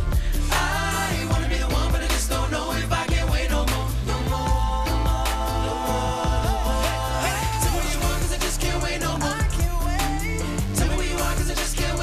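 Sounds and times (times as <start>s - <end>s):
person singing: 0.0s - 12.0s
pop and r and b music: 0.0s - 12.0s.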